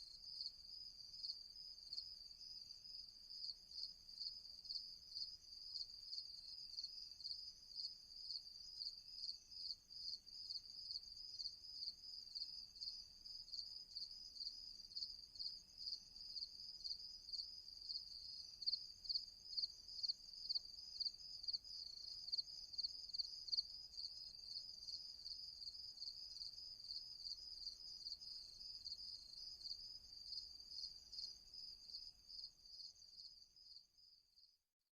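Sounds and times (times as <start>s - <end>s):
crickets chirping: 0.0s - 34.6s.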